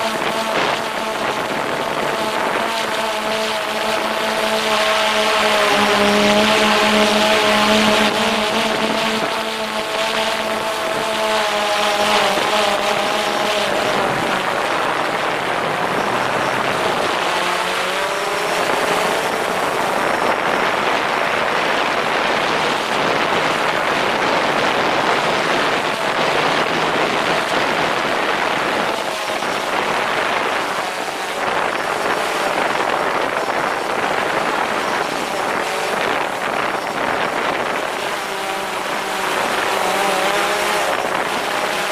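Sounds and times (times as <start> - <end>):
drone propellers whirring: 0.0 - 41.9.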